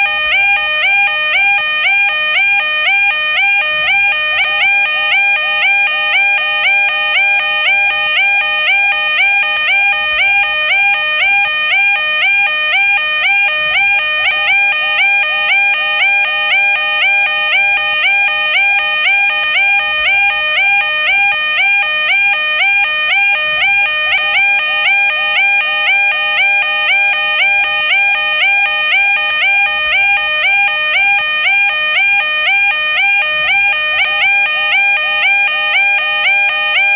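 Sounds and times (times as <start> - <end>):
level crossing alarm ringing: 0.0 - 36.9.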